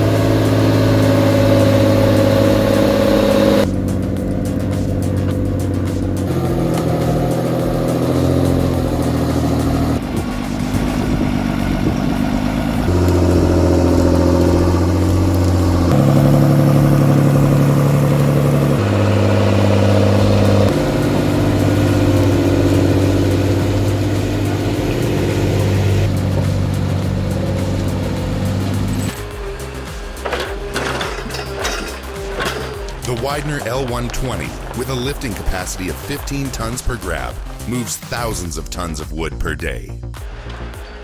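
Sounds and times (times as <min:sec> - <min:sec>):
sustained music chords: 0:00.0 - 0:39.1.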